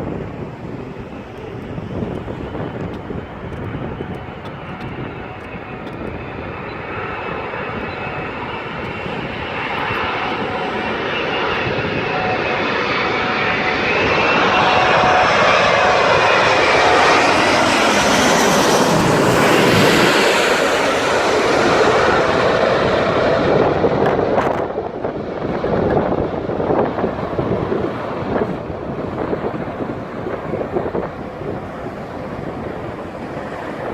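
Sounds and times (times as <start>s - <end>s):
jet airliner landing rumble and whine: 0.0s - 33.9s.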